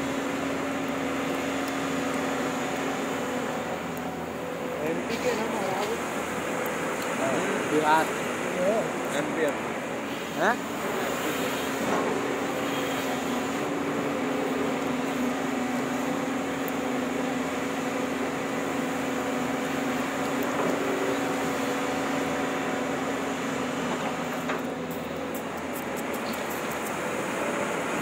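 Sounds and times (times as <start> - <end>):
excavator engine and hydraulics: 0.0 - 28.0.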